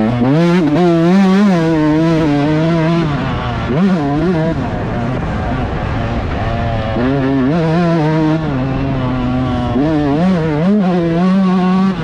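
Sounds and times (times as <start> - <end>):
motocross bike engine revving: 0.0 - 12.0
steady rushing noise: 0.0 - 12.0.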